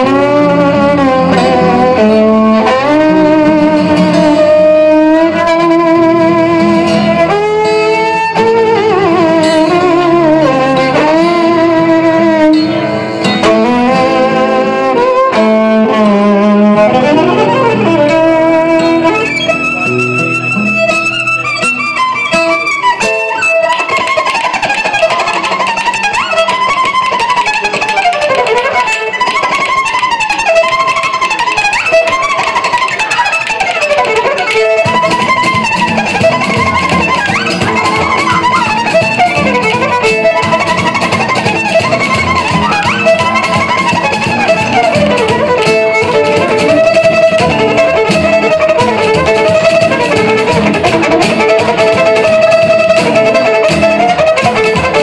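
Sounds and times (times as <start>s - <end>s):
fast fiddle melody: 0.0s - 55.0s
plucked guitar backing: 0.0s - 55.0s.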